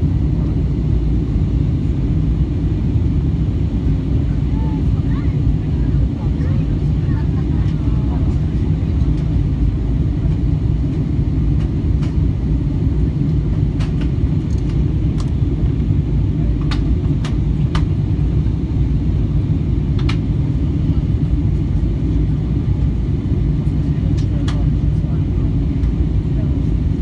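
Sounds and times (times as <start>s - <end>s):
airplane cabin drone: 0.0s - 27.0s.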